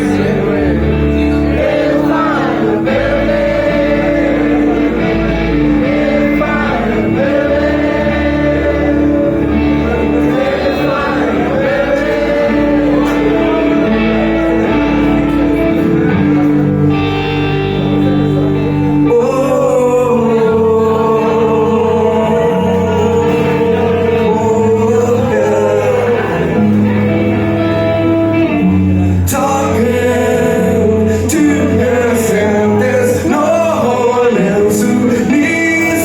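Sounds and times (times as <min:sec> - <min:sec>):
live rock band playing: 0:00.0 - 0:36.0
man singing long notes: 0:00.0 - 0:36.0.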